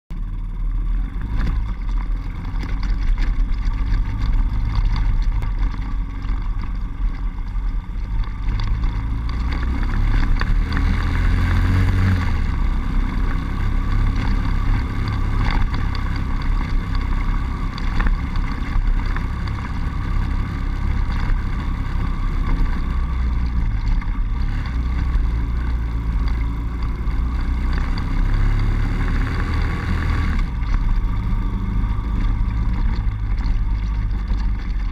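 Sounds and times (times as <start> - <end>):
small motorbike engine running: 0.1 - 34.9.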